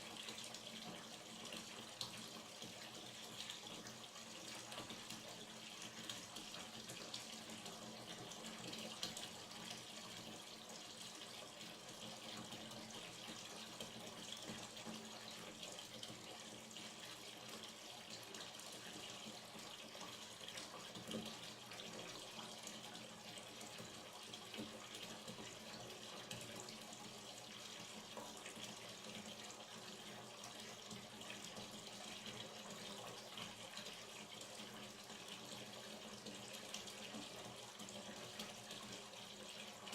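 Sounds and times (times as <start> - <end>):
water running into bathtub: 0.0 - 39.9.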